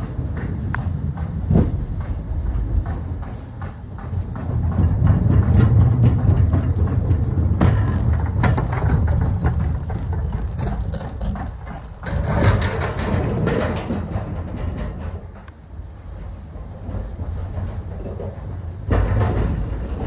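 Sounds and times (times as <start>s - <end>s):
rattling and knocking: 0.0s - 15.5s, 17.1s - 20.0s.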